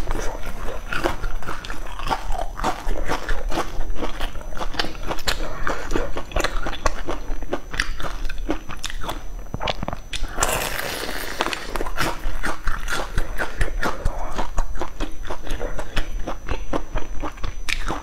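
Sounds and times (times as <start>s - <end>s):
crunching and chewing crispy food: 0.0s - 18.0s.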